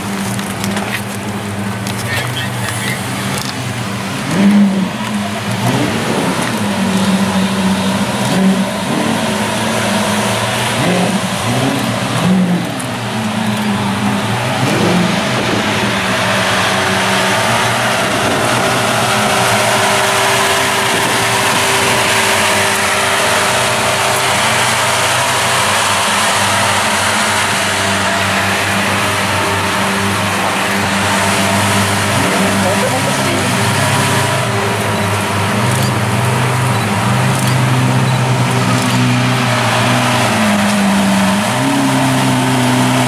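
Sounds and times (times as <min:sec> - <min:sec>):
car engine revving and idling: 0:00.0 - 0:43.0.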